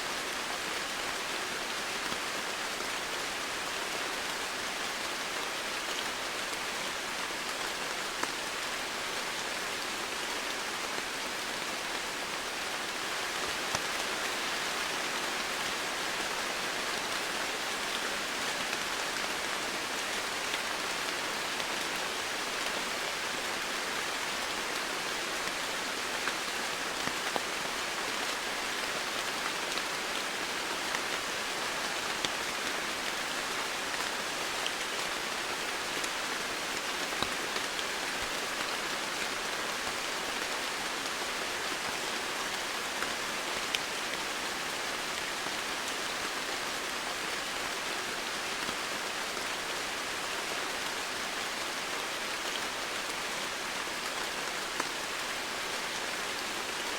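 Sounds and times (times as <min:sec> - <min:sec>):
heavy rain on surfaces: 0:00.0 - 0:56.9.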